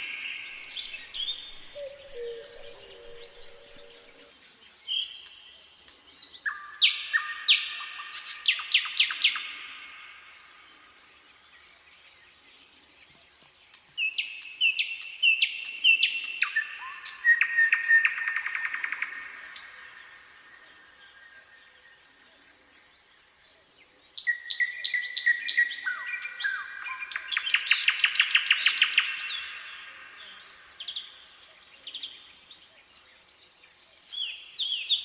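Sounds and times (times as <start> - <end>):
nightingale singing: 0.0 - 12.1, 13.1 - 22.4, 23.3 - 35.0.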